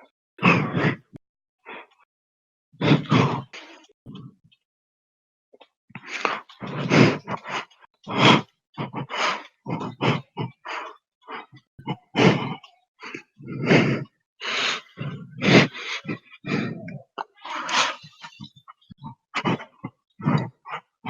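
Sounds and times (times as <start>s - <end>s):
person breathing heavily and grunting: 0.4s - 2.0s, 2.8s - 4.2s, 6.0s - 21.0s.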